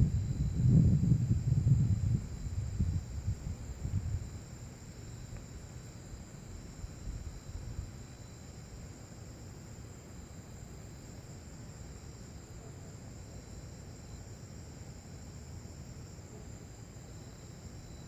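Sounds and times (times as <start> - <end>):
insect trills: 0.0 - 18.0.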